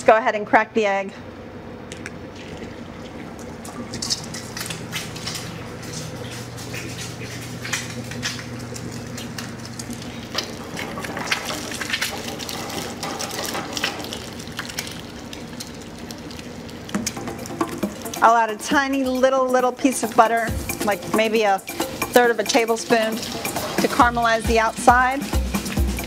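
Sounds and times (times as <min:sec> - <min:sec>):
low steady hum: 0:00.0 - 0:26.0
egg sizzling in hot oil: 0:02.7 - 0:26.0.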